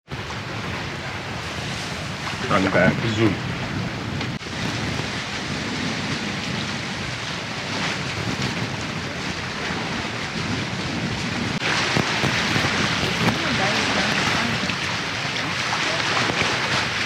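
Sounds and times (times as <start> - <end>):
water rushing past boat hulls: 0.1 - 17.0
wind on microphone: 0.1 - 17.0.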